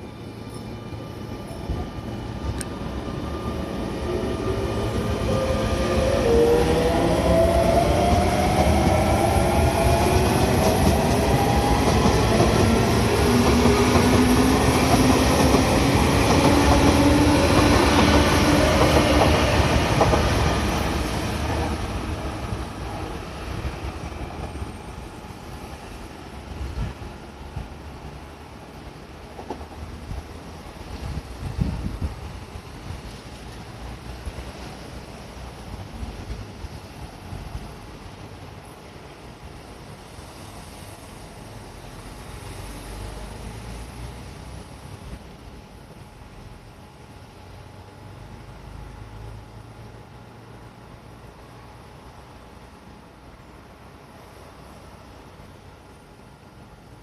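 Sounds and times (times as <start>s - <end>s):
train wheels rumbling on rails: 0.0s - 48.1s
train rising whine: 0.0s - 57.0s.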